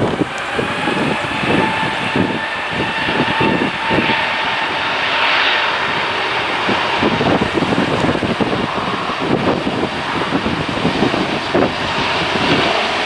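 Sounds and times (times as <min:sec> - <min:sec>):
jet engine roar: 0:00.0 - 0:13.0
steady whine: 0:00.0 - 0:13.0.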